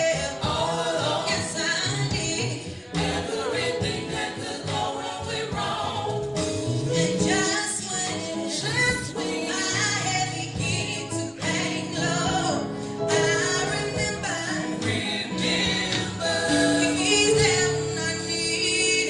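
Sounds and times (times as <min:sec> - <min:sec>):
gospel group singing: 0:00.0 - 0:19.0
instrumental accompaniment: 0:00.0 - 0:19.0.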